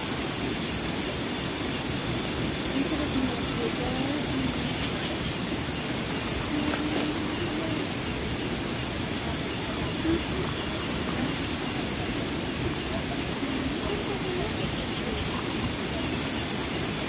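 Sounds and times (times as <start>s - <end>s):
cicadas droning: 0.0s - 17.0s
faint voices: 0.0s - 17.0s.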